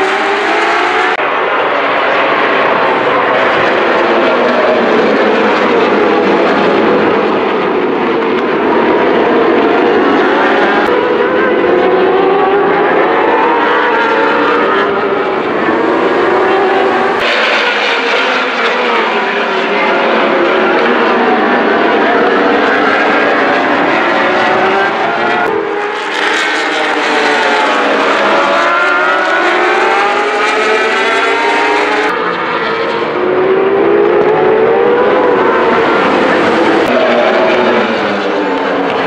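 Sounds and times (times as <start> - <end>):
racing motorcycle engines revving: 0.0 - 39.0.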